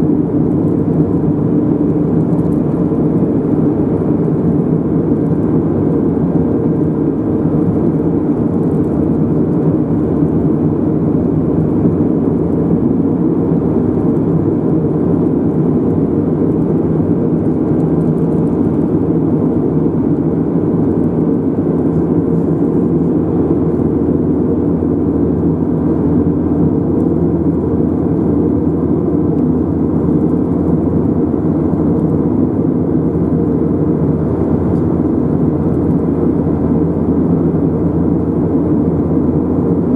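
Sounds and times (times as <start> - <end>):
car road and engine drone: 0.0 - 39.9.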